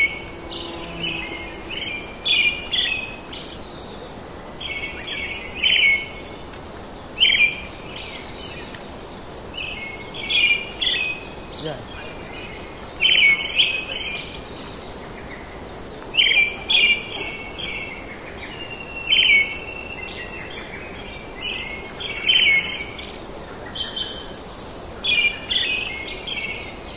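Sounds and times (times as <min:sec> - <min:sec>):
birds chirping: 0:00.0 - 0:26.9
outdoor background hiss: 0:00.0 - 0:26.9.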